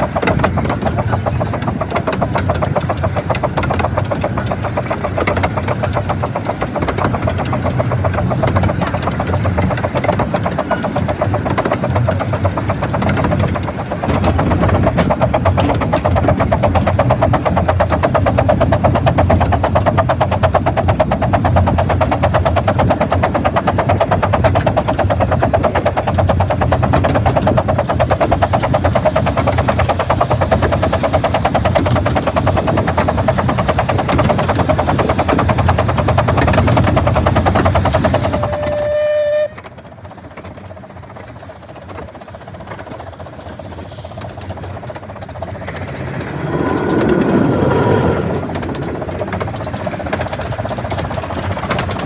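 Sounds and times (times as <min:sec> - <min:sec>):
miniature train clattering: 0:00.0 - 0:52.0.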